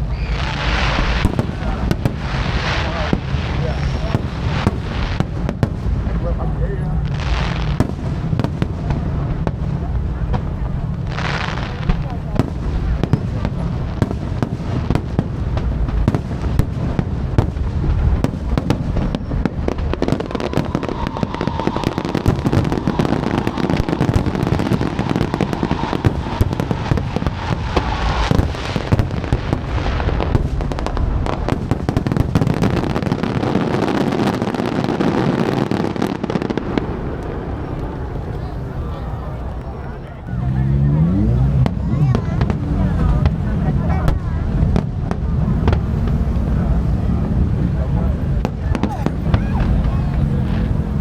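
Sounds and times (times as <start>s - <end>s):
fireworks bangs and crackling: 0.0s - 51.0s
low rumble of launches: 0.0s - 51.0s.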